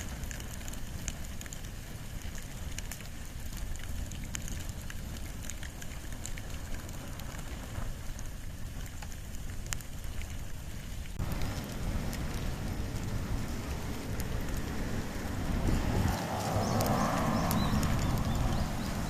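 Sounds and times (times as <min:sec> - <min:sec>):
fire burning: 0:00.0 - 0:19.0
fire crackles and pops: 0:00.0 - 0:19.0.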